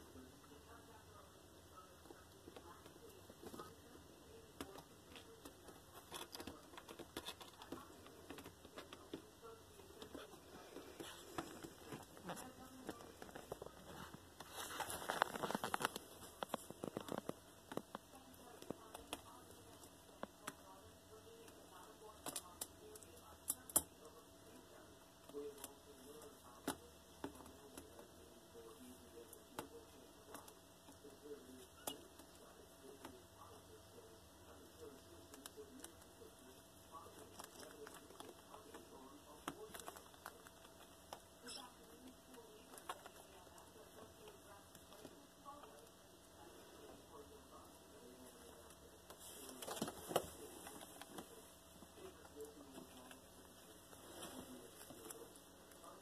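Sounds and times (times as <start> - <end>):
kittens' paws scratching and tapping: 1.8 - 56.0.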